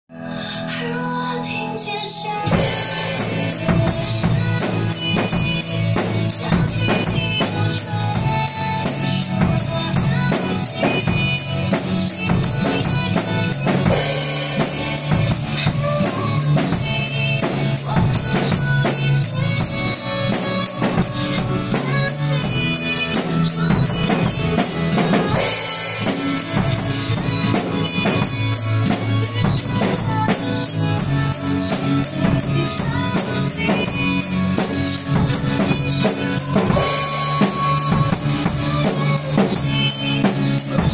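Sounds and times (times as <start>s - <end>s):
melodic accompaniment: 0.2s - 40.8s
drum kit beat: 2.4s - 40.9s.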